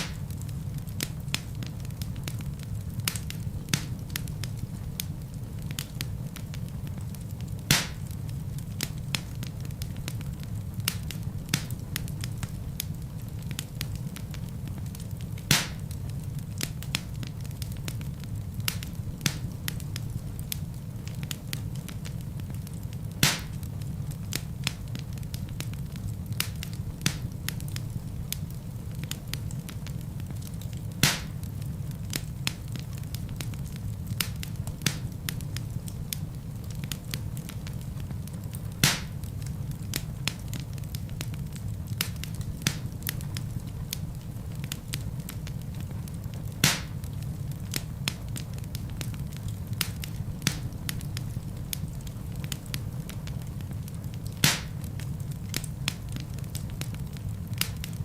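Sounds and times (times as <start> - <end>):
burning logs popping: 0.0 - 58.0
wood fire burning: 0.0 - 58.0.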